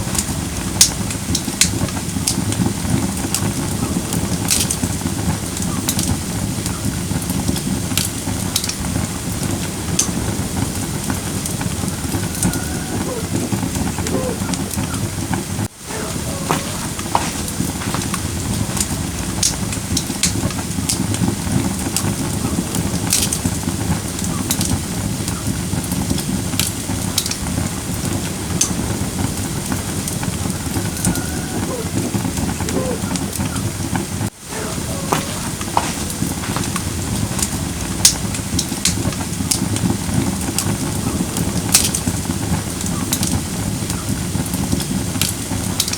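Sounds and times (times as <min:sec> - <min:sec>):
fire crackling and popping: 0:00.0 - 0:45.9
fire hissing and rumbling: 0:00.0 - 0:45.9.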